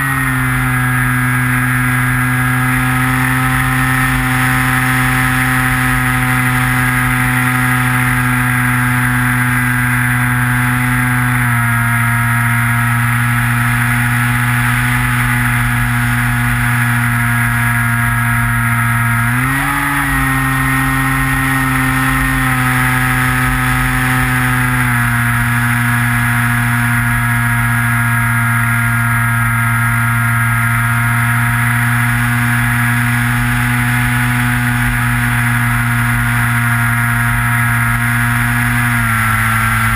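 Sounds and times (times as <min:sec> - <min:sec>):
model plane motor and propeller droning: 0:00.0 - 0:39.9.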